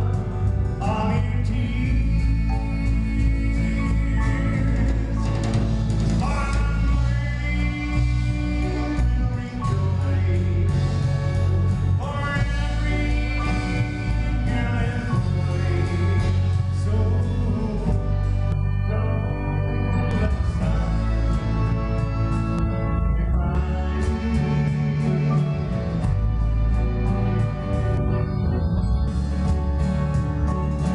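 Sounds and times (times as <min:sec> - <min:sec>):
person singing: 0:00.0 - 0:05.6, 0:06.2 - 0:28.4
heavy bass line: 0:00.0 - 0:30.9
live band playing: 0:00.0 - 0:30.9.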